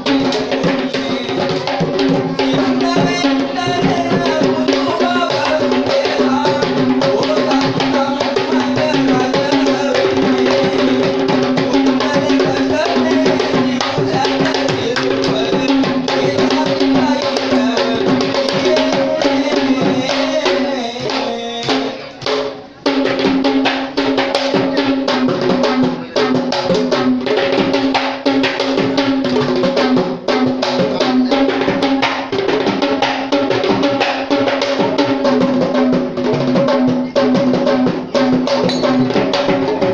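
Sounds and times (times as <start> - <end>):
ensemble of drums playing fast: 0.0 - 39.9.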